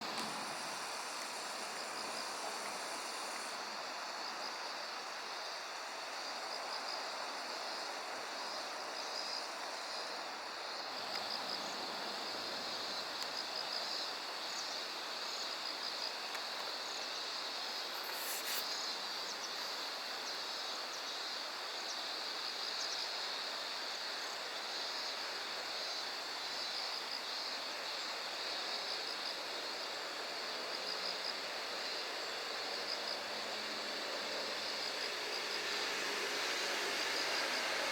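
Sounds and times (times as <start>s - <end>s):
insects trilling: 0.0s - 37.9s.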